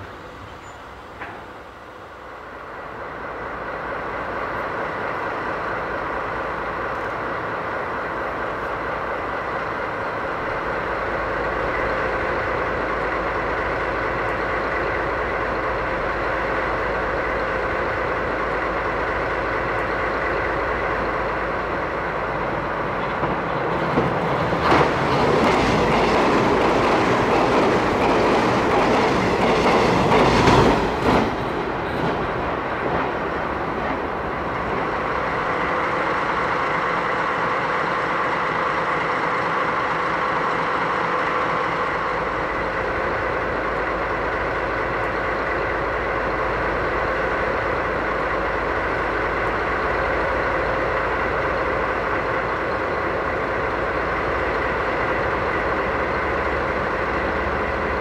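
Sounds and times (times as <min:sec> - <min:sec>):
locomotive diesel engines running: 0:00.0 - 0:58.0
train rushing past: 0:00.0 - 0:58.0.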